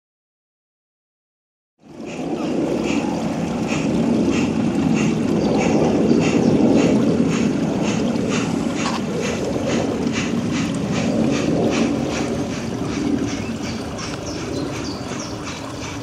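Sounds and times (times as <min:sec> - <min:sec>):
steady low rumble: 0:01.8 - 0:16.0
model locomotive ticking beat: 0:02.0 - 0:16.0.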